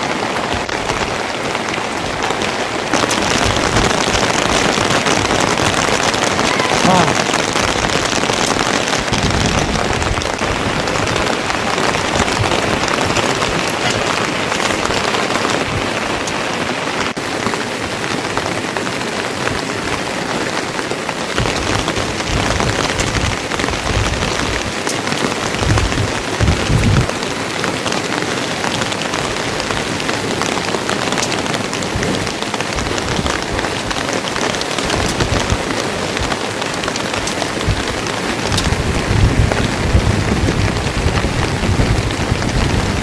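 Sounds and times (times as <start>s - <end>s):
heavy rain: 0.0s - 43.0s.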